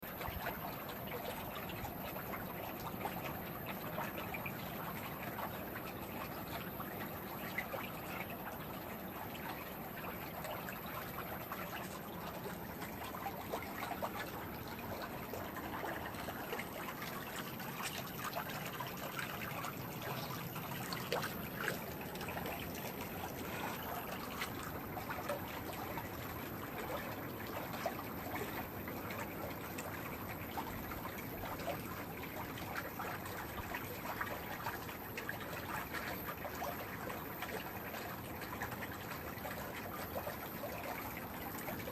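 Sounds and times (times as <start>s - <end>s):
pool water trickling and lapping: 0.0s - 41.9s
small water splashes: 0.0s - 41.9s.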